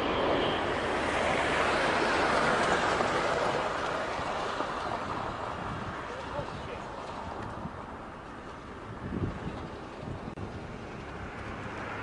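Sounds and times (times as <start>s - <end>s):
turboprop aircraft roar: 0.0s - 12.0s.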